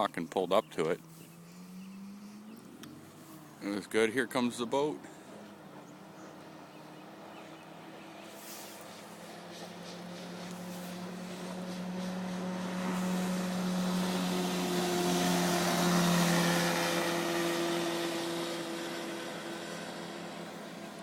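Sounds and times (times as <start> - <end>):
outboard motor passing by: 0.0 - 21.0.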